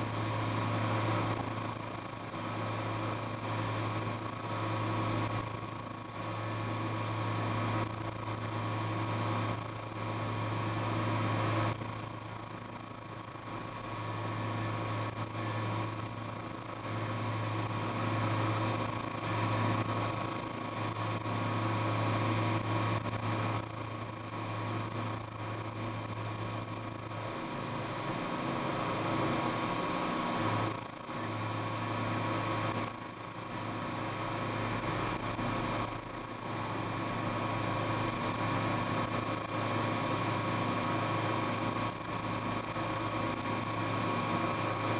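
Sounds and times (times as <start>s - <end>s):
milling machine humming: 0.0s - 44.9s.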